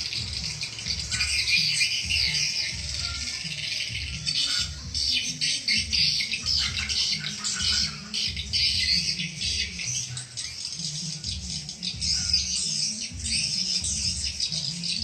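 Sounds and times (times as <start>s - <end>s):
swiftlets twittering: 0.0s - 15.0s.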